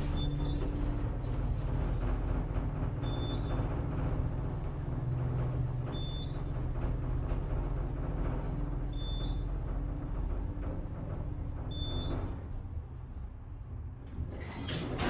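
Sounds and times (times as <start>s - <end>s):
elevator machinery rumble and hum: 0.0s - 15.0s.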